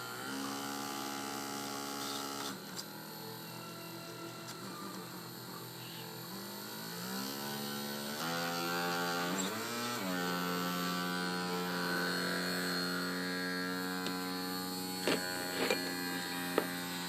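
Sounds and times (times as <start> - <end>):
sewing machine motor whining: 0.0 - 17.0.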